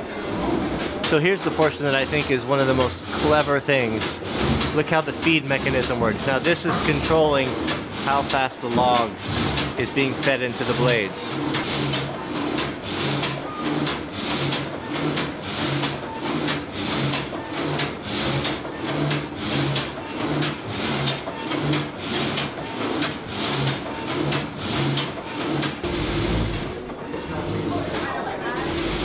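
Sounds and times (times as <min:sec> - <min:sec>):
frame saw cutting a log: 0:00.5 - 0:29.0.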